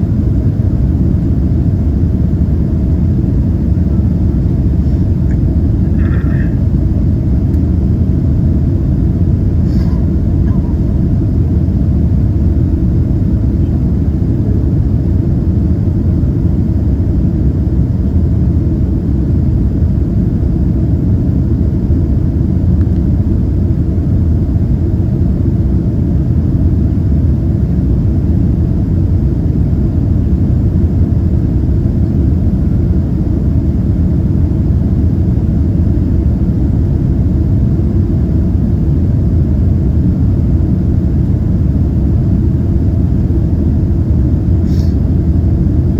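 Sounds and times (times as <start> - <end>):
airplane engines droning in cabin: 0.0 - 45.9
cabin air noise: 0.0 - 45.9.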